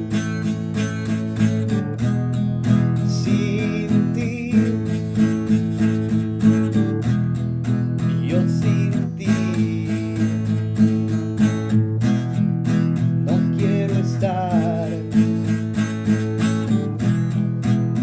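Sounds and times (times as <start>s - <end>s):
bending guitar lead line: 0.0s - 17.1s
strummed guitar chords: 0.0s - 18.0s.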